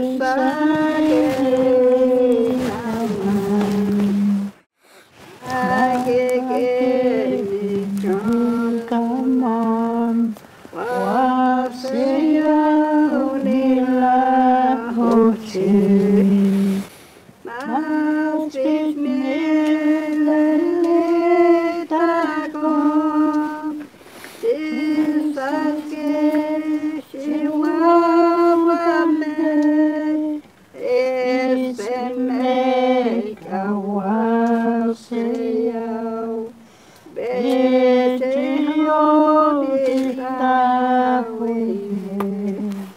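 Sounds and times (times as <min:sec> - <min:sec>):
voices singing a slow hymn: 0:00.0 - 0:42.9.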